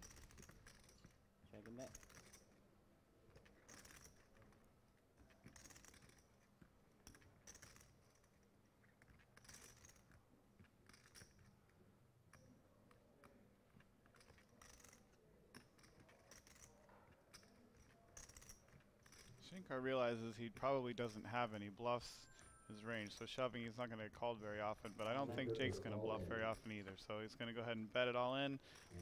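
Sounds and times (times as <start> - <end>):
clay poker chips clattering: 0.0 - 2.7, 3.3 - 29.0.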